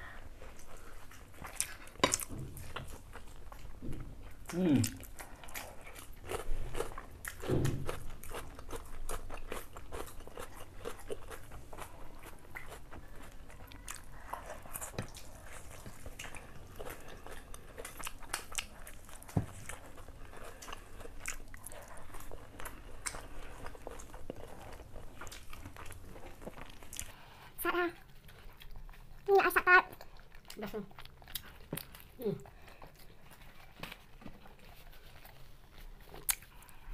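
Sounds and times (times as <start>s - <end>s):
people chewing noodles: 0.0s - 36.9s.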